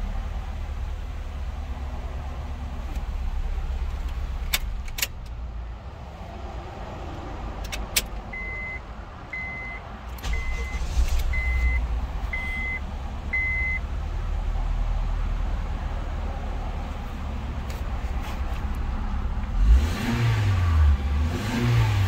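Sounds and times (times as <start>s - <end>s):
steady low rumble: 0.0s - 19.5s.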